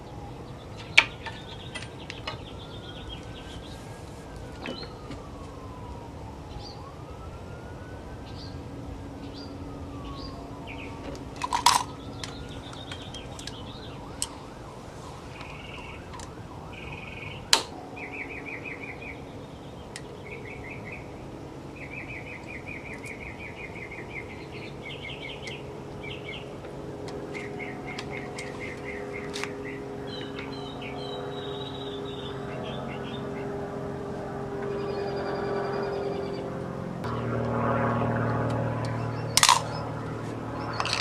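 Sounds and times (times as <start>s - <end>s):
birds chirping: 0.0s - 5.8s, 8.2s - 37.4s, 38.2s - 41.0s
faint siren: 0.0s - 41.0s.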